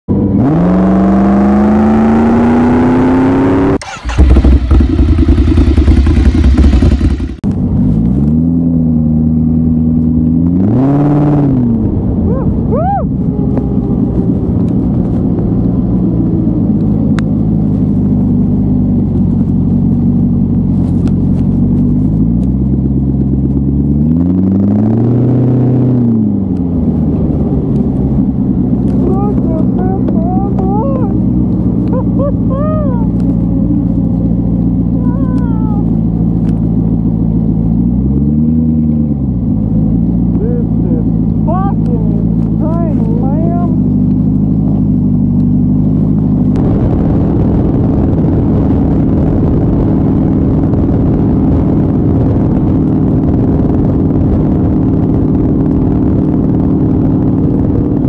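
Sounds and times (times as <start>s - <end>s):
motorcycle engine accelerating: 0.1s - 58.0s.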